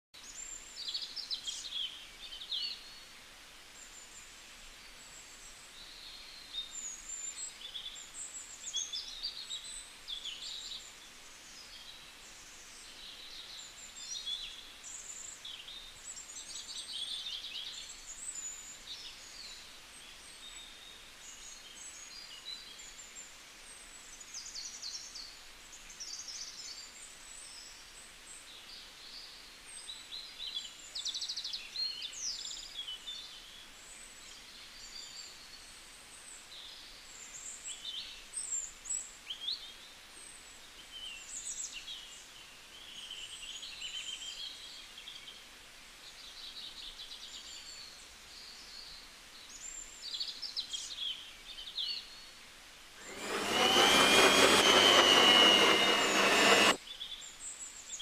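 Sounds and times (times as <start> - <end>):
faint steady hiss: 0.2 - 53.2.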